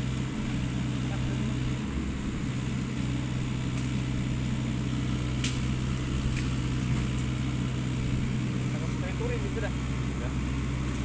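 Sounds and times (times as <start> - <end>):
campfire crackles: 0.0 - 11.0
low engine drone: 0.0 - 11.0.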